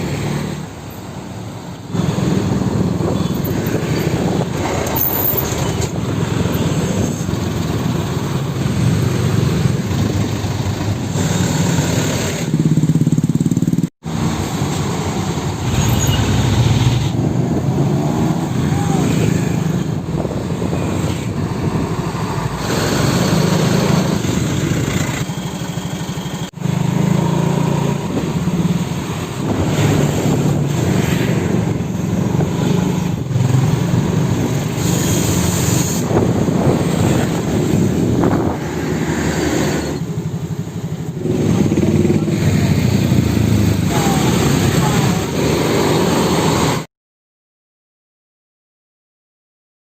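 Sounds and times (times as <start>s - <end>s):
vehicles passing: 0.0s - 46.9s.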